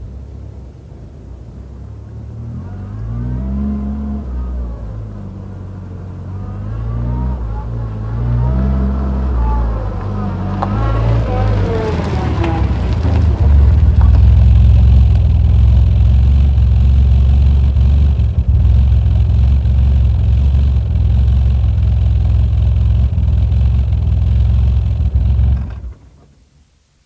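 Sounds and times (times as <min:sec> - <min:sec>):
car engine idling: 0:00.0 - 0:26.5.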